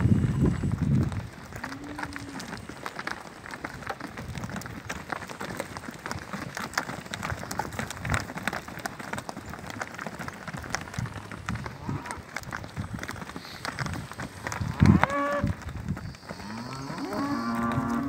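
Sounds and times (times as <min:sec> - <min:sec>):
hooves walking on hard dirt: 0:00.0 - 0:18.0.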